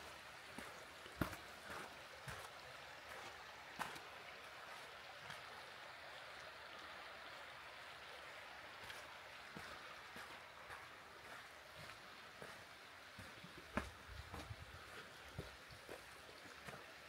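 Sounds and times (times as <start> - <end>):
flowing creek: 0.0 - 17.0.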